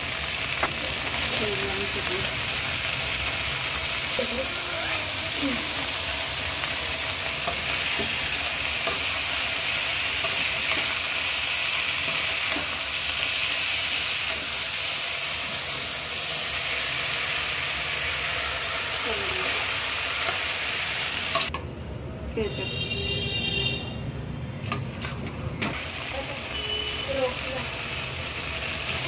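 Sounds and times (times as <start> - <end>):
potatoes sizzling in a pan: 0.0 - 21.5, 25.7 - 29.0.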